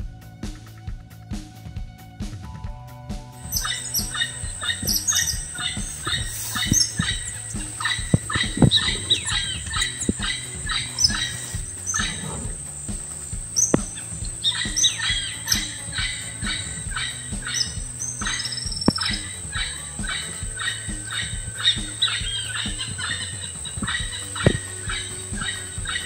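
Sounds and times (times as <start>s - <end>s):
small birds chirping: 3.4s - 26.0s.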